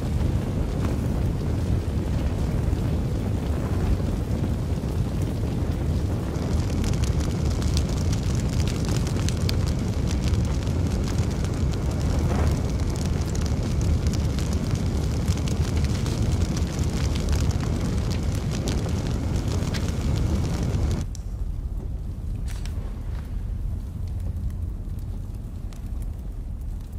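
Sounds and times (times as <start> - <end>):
fire burning in a fireplace: 0.0 - 26.9
fire crackles and pops: 0.0 - 26.9.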